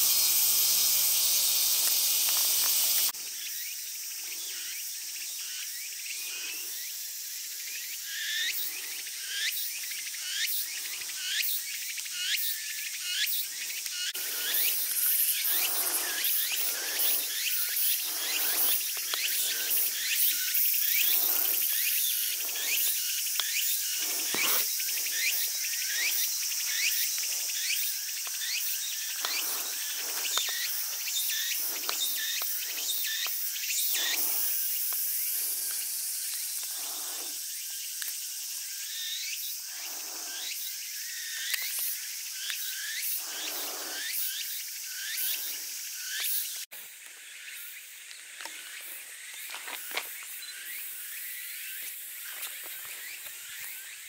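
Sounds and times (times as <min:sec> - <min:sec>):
insect chirps: 0:00.0 - 0:54.0
insect chorus shrilling: 0:00.0 - 0:54.0.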